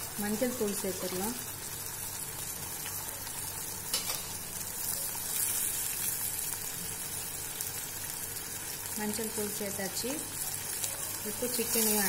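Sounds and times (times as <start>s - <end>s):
paste sizzling in a clay pot: 0.0s - 12.0s.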